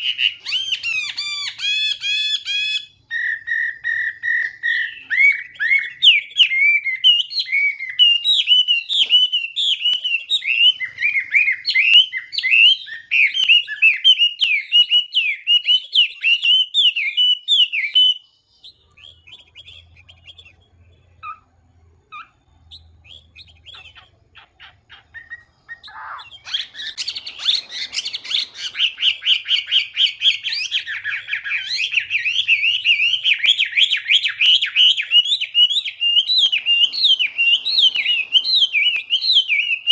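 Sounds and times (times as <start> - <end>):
songbird singing rapid notes: 0.0 - 39.9.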